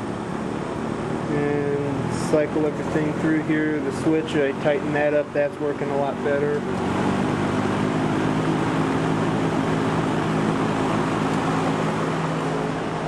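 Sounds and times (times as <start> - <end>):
box fan air rush: 0.0 - 13.0
fan motor hum: 0.0 - 13.0.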